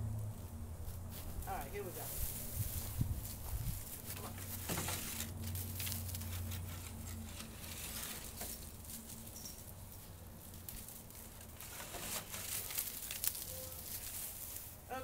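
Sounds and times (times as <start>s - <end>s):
low steady hum: 0.0s - 15.0s
footsteps through grass: 0.3s - 14.9s.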